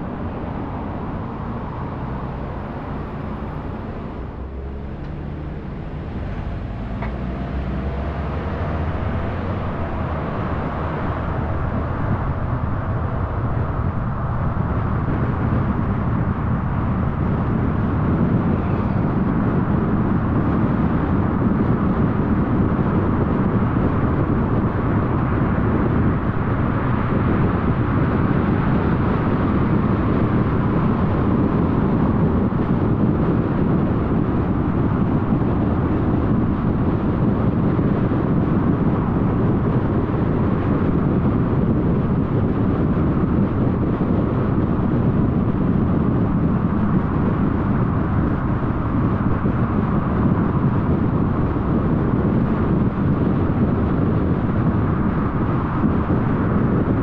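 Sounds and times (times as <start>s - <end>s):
car engine running: 0.0s - 57.0s
road and tyre noise: 0.0s - 57.0s.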